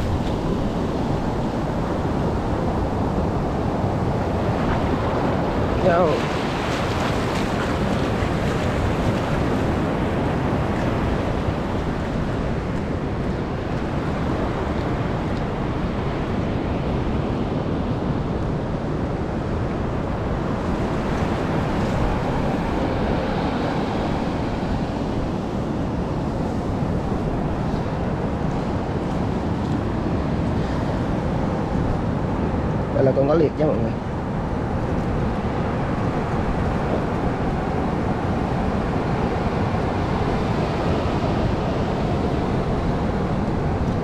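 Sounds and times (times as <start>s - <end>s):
sea surf washing ashore: 0.0s - 44.0s
wind noise on microphone: 0.0s - 44.0s.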